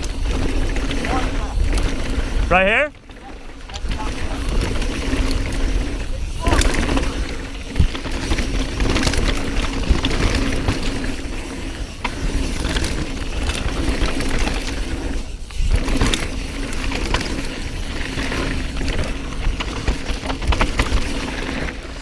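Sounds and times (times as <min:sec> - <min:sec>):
bike knocking and rattling: 0:00.0 - 0:22.0
bike tyres rumbling over dirt: 0:00.0 - 0:22.0.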